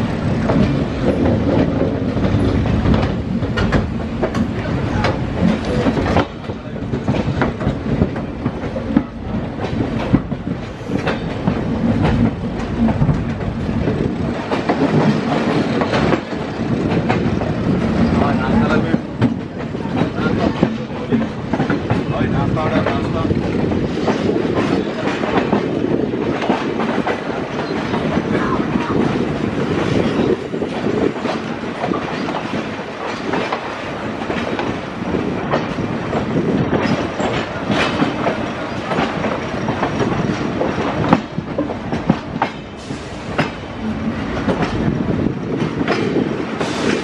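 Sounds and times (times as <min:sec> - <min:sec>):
train running rumble: 0:00.0 - 0:47.0
wheels clattering over rail joints: 0:00.0 - 0:47.0.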